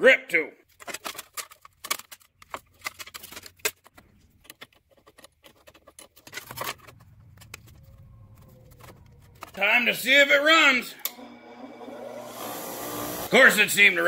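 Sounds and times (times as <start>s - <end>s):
wires shifting: 0.6s - 13.6s.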